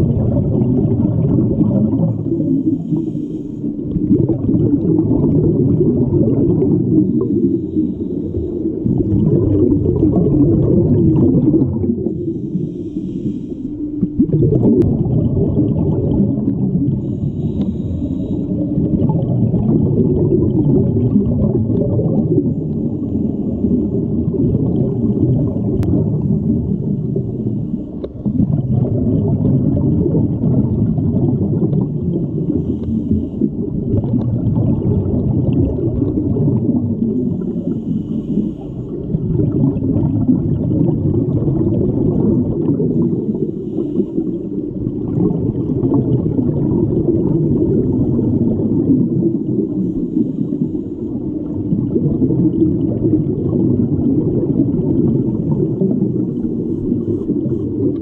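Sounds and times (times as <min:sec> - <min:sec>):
underwater bubbling rumble: 0:00.0 - 0:58.0.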